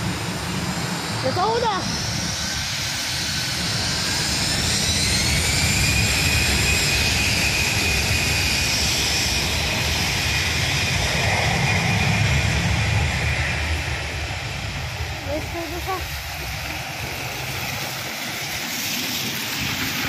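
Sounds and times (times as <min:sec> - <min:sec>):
jet engine rumble: 0:00.0 - 0:20.0
jet engine whine rising: 0:00.0 - 0:20.0.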